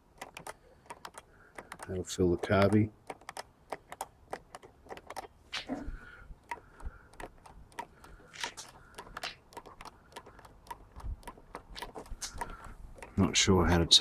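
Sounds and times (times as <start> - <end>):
primer bulb clicking: 0.0 - 13.4.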